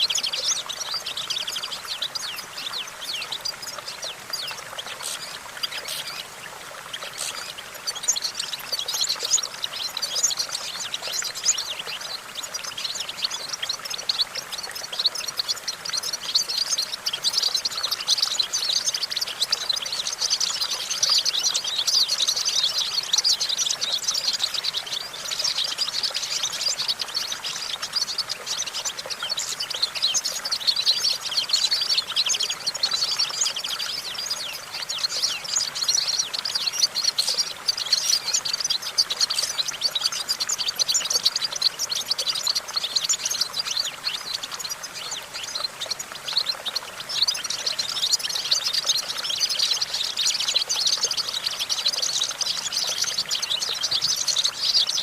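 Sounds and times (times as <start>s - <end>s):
bird twittering chirps: 0.0s - 55.0s.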